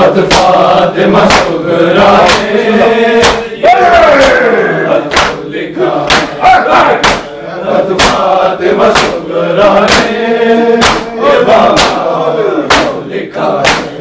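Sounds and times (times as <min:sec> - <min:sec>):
hands striking chests in unison: 0:00.0 - 0:14.0
men chanting: 0:00.0 - 0:14.0.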